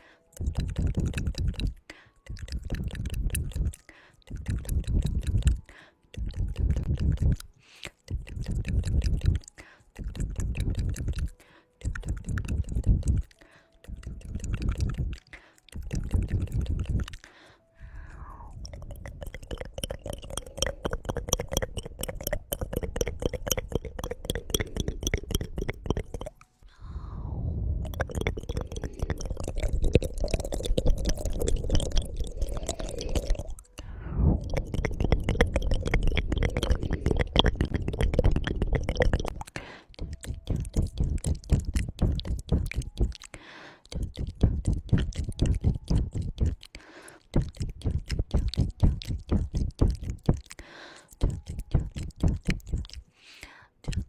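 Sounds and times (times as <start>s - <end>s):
tongue clicking: 0.0s - 26.5s, 27.8s - 54.0s.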